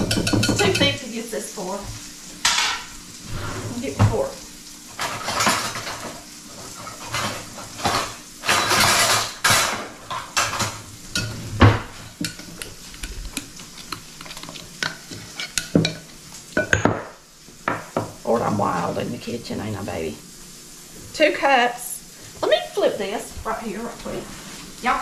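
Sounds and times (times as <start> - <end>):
sausage sizzling in frying pan: 0.0 - 25.0.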